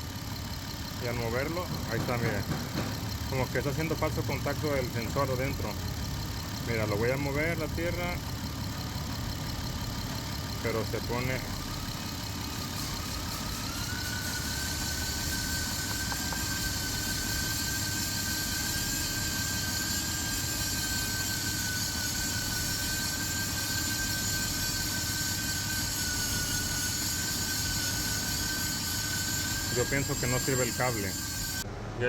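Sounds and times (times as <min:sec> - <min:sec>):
car engine idling: 0:00.0 - 0:31.6
high whine: 0:00.0 - 0:31.7.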